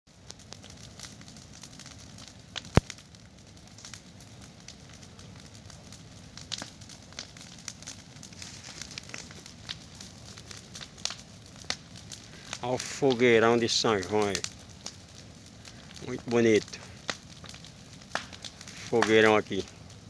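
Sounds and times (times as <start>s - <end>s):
bonfire crackling and popping: 0.1s - 20.0s
low rumble of flames: 0.1s - 20.0s.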